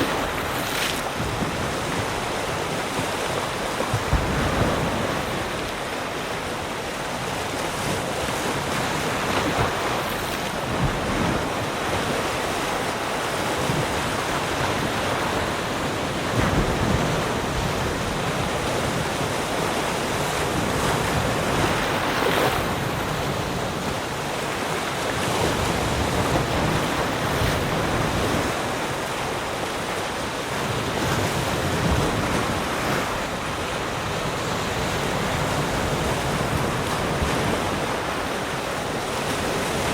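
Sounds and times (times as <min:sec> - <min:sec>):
ocean surf washing ashore: 0:00.0 - 0:39.9.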